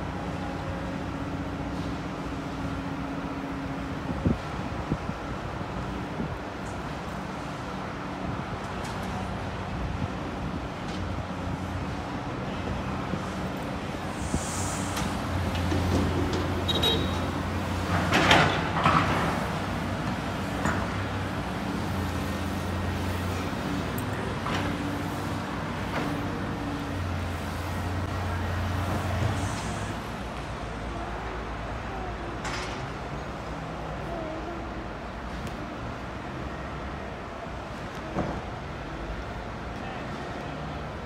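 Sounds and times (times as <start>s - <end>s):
excavator diesel engines running: 0.0s - 41.0s.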